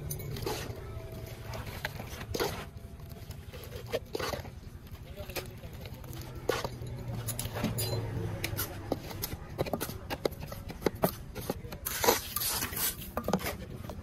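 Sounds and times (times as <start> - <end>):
trowel scraping and tapping: 0.0 - 14.0.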